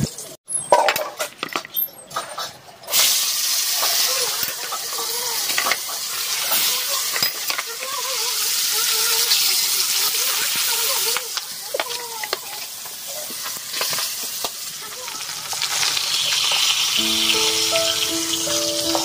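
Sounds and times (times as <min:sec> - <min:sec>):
fish frying in hot oil: 0:02.9 - 0:19.0.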